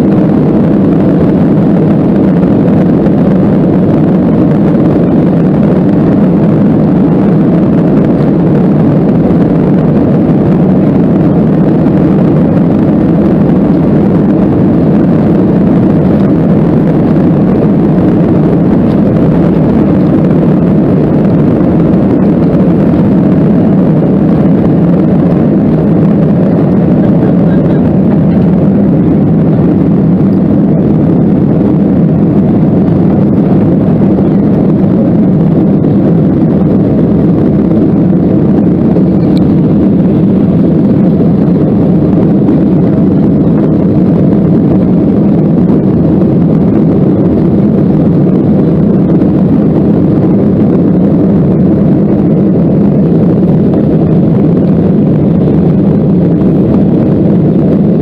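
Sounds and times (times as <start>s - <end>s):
jet engines rumbling at take-off: 0.0s - 58.0s.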